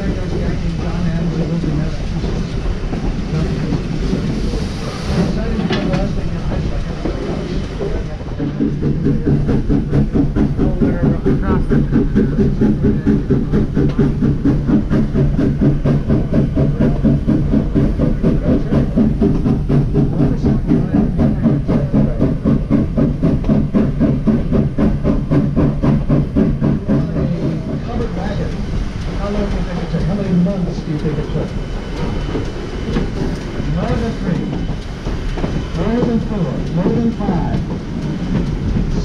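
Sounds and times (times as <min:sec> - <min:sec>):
steam train rumbling: 0:00.0 - 0:39.0.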